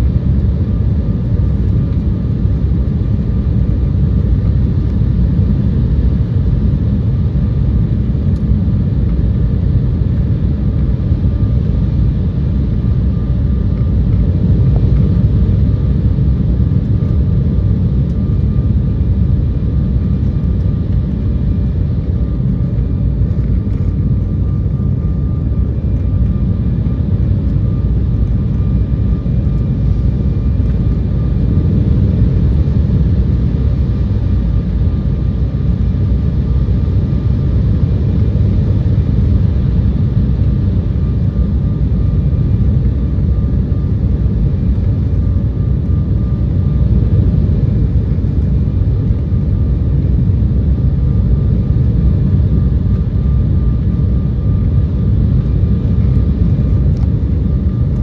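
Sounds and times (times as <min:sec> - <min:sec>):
faint high whine: 0:00.0 - 0:58.0
jet cabin engine rumble: 0:00.0 - 0:58.0.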